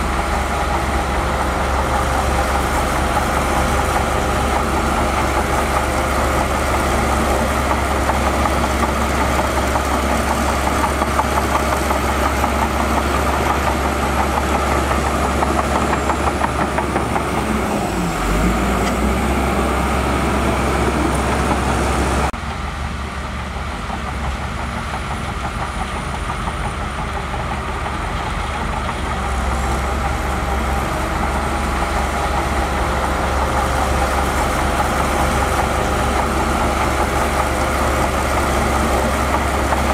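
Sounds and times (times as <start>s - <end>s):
heavy diesel engine under load: 0.0s - 39.9s
quieter duller engine sound: 0.0s - 39.9s.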